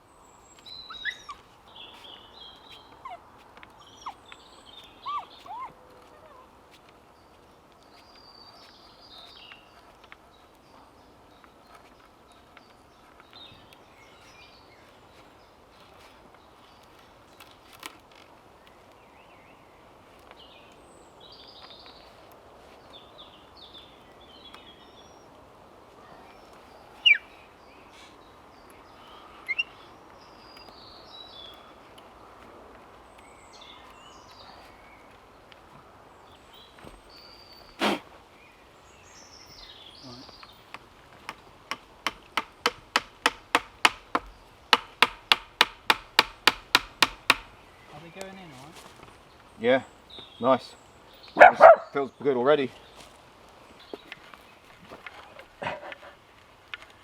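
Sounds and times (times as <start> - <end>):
birds chirping: 0.0 - 57.0
steady outdoor hiss: 0.0 - 57.0.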